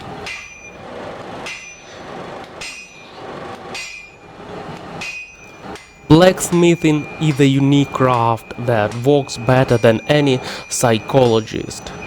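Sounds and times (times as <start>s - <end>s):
hammer striking steel on anvil: 0.0s - 0.8s, 1.4s - 12.0s.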